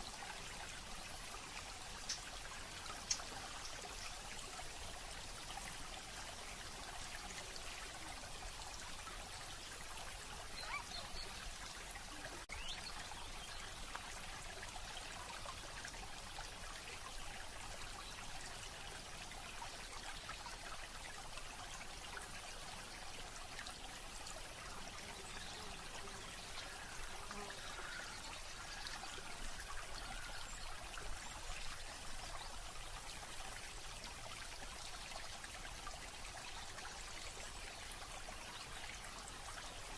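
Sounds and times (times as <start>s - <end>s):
trickling flowing water: 0.0s - 39.9s.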